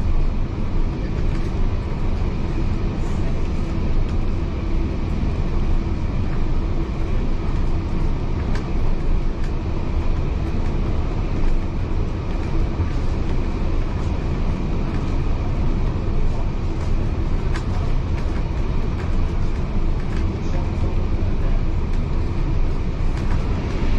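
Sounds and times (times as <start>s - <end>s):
railway carriage rumble: 0.0s - 23.9s.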